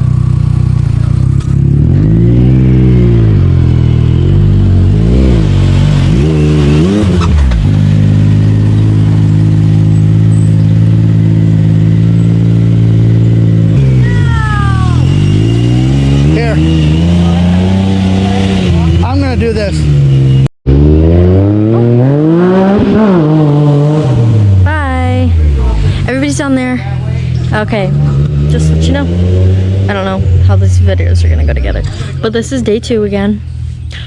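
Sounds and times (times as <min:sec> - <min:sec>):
engine revving and idling: 0:00.0 - 0:34.0.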